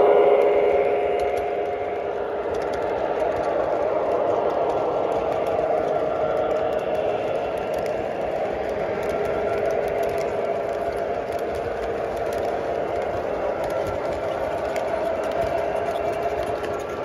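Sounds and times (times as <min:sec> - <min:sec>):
model train wheels rumbling on rails: 0:00.0 - 0:17.0.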